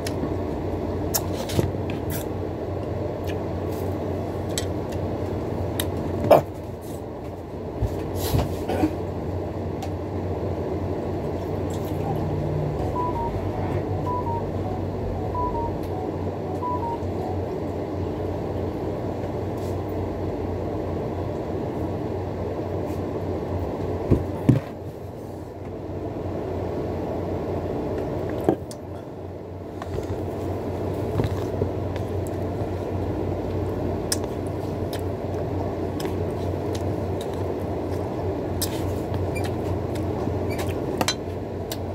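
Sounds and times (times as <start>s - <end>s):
low mechanical hum and rumble: 0.0s - 41.9s.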